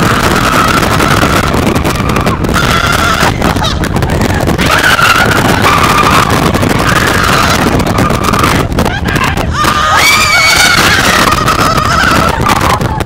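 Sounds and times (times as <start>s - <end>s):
riders screaming: 0.0s - 13.0s
wind buffeting microphone: 0.0s - 13.0s.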